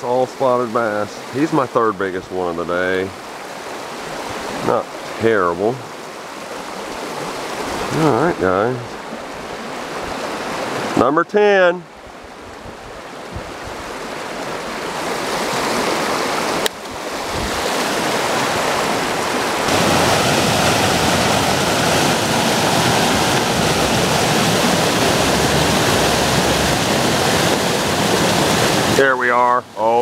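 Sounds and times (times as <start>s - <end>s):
whitewater rushing: 0.0s - 30.0s.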